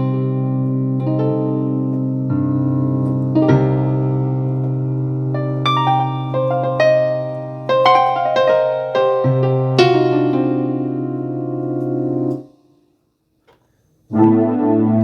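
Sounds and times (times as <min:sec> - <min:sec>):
synthesizer electric piano chords: 0:00.0 - 0:12.6, 0:14.1 - 0:15.0.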